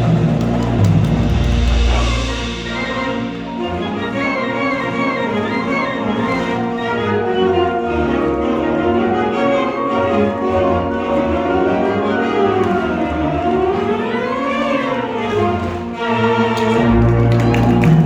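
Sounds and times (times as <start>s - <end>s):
marching band playing held chords: 0.0s - 18.0s.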